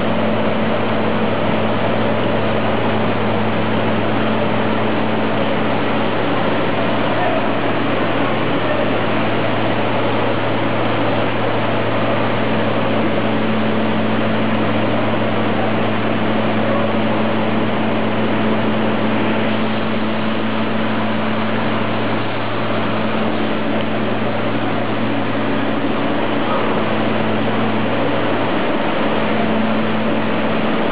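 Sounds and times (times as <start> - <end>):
mill machinery droning: 0.0 - 30.9.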